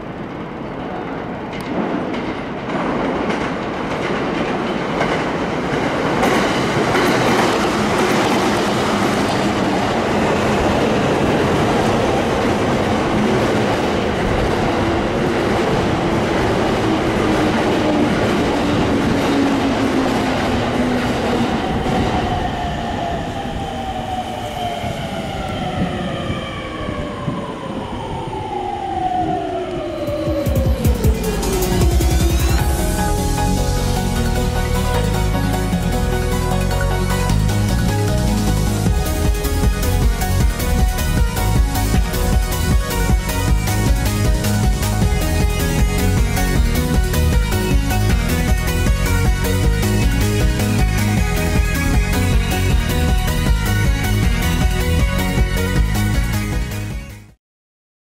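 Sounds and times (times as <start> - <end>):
electric train passing: 0.0 - 57.0.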